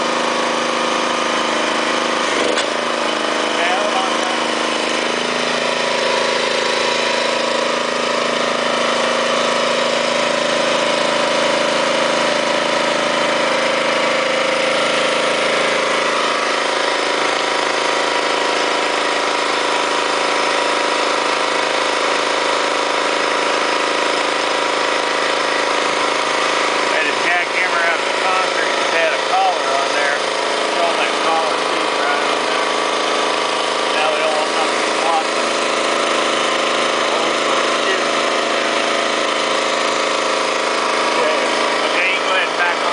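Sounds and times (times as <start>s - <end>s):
truck engine running steadily: 0.0s - 42.9s.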